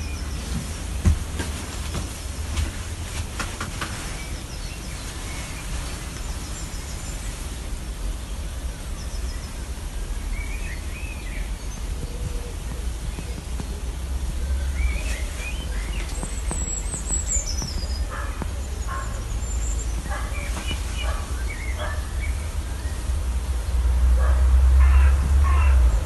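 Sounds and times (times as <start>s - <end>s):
low rumble and hiss: 0.0s - 26.0s.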